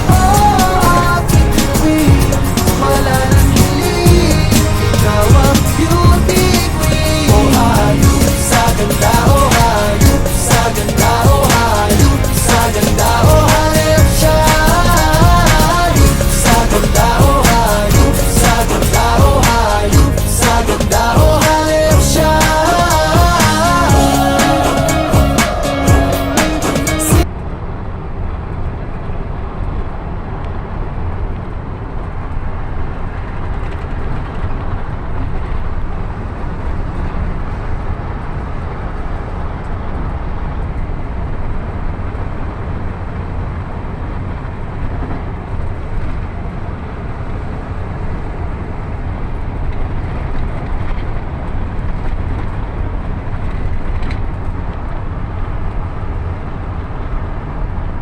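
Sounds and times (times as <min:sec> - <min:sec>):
vehicle rumbling along road: 0:00.0 - 0:58.0
wind noise: 0:00.0 - 0:58.0.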